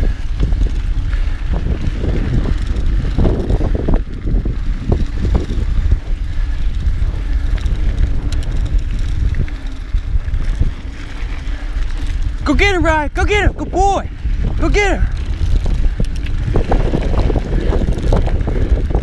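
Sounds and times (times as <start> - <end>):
bike rattling over rough ground: 0.0 - 19.0
wind on microphone: 0.0 - 19.0.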